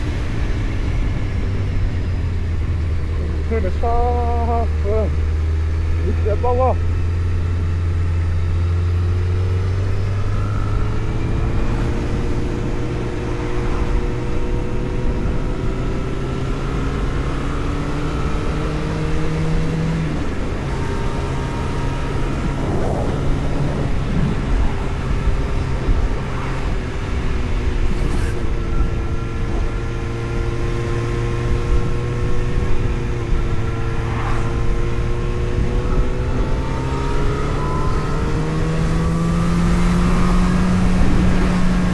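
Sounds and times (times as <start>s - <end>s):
vehicle engine running: 0.0s - 36.4s
road and wind noise: 0.0s - 41.9s.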